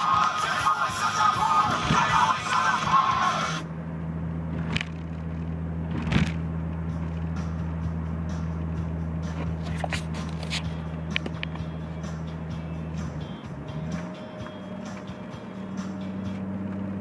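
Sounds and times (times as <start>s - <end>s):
car interior drone: 0.0s - 17.0s.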